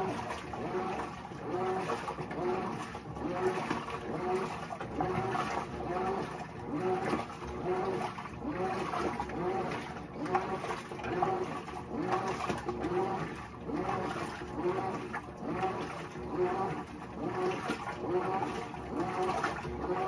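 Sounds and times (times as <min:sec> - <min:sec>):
washer agitator whine: 0:00.0 - 0:20.0
water sloshing in a tub: 0:00.0 - 0:20.0.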